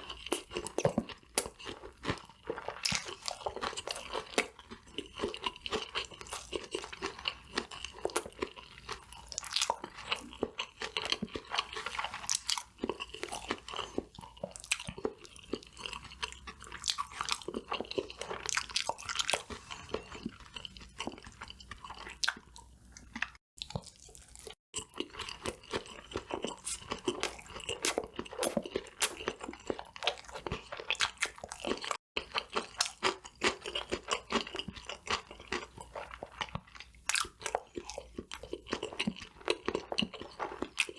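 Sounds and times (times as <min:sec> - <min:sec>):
crunchy food chewing: 0:00.0 - 0:40.9.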